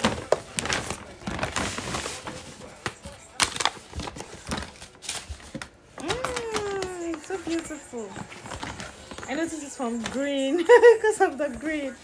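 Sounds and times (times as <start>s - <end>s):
paper bag rustling: 0.0s - 12.0s.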